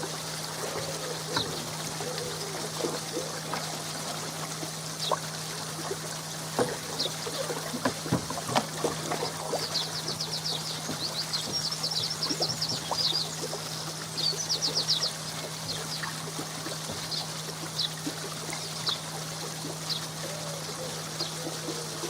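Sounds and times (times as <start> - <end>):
steady low hum: 0.0 - 22.0
water pouring and trickling: 0.0 - 22.0.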